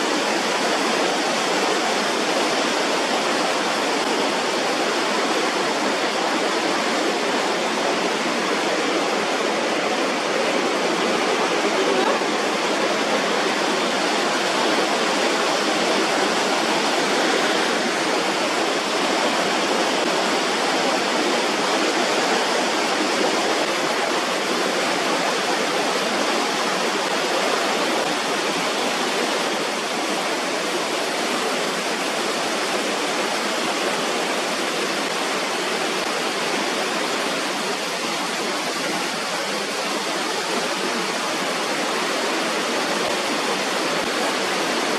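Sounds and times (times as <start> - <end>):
waterfall crashing down: 0.0 - 44.9.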